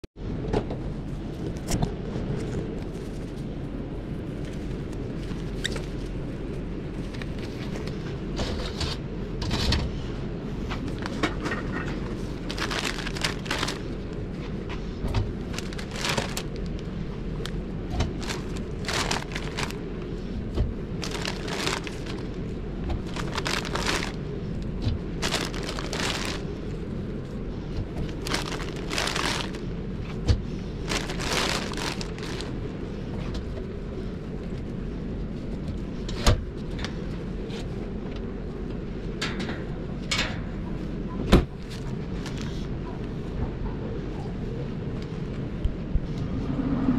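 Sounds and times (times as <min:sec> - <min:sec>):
steady low hum: 0:00.2 - 0:46.9.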